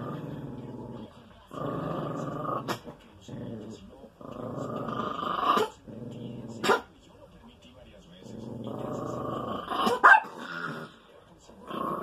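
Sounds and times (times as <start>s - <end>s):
small dog growling: 0.0s - 6.8s, 8.2s - 11.0s, 11.6s - 12.0s.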